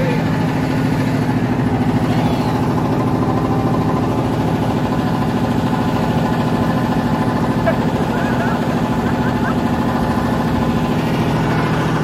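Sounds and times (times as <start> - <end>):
motorboat engine pulsing: 0.0 - 12.0.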